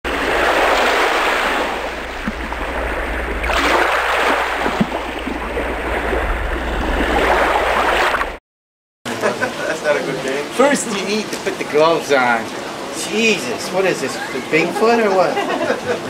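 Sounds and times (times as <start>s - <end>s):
water rushing and splashing: 0.0s - 8.4s, 10.1s - 15.3s.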